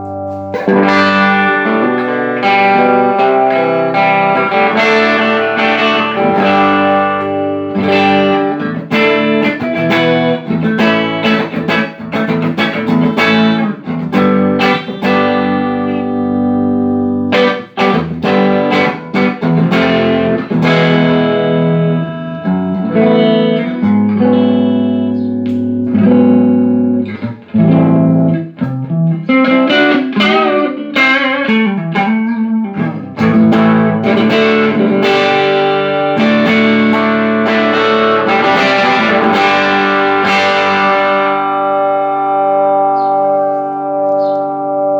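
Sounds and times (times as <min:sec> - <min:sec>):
electric guitar notes and chords: 0:00.0 - 0:44.9.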